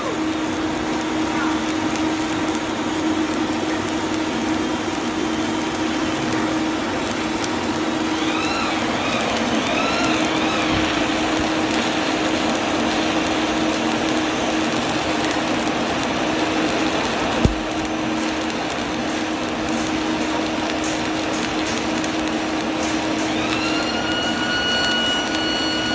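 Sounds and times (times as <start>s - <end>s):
welding arc hissing and crackling: 0.0s - 25.9s.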